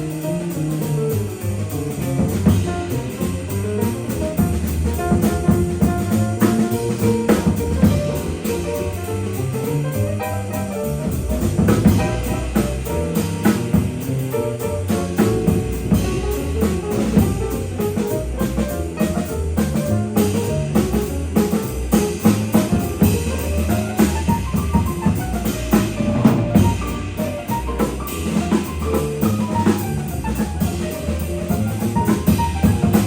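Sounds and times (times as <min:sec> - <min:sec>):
drum kit: 0:00.0 - 0:33.0
piano: 0:00.0 - 0:33.0
walking bass: 0:00.0 - 0:33.0.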